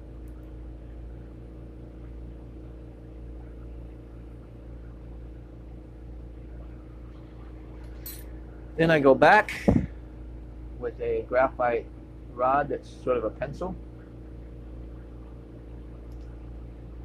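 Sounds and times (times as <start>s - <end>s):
torch burning with low rumble: 0.0s - 17.0s.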